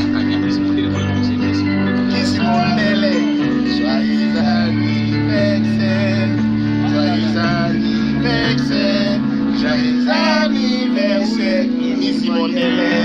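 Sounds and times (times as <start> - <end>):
guitar music: 0.0 - 13.0
person singing: 0.0 - 13.0.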